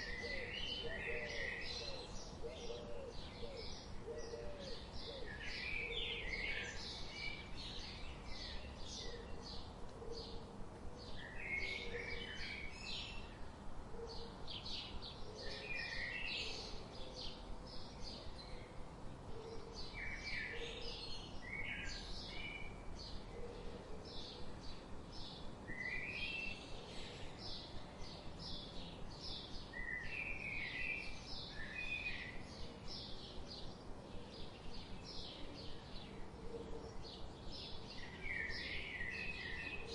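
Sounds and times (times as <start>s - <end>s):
soft steady background noise: 0.0s - 39.9s.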